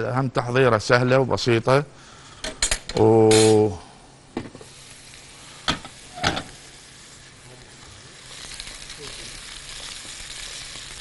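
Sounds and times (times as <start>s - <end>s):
food sizzling in a pan: 2.2s - 11.0s.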